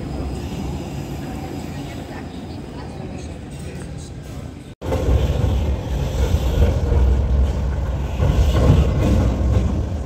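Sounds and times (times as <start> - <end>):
city street low rumble: 0.0 - 10.0.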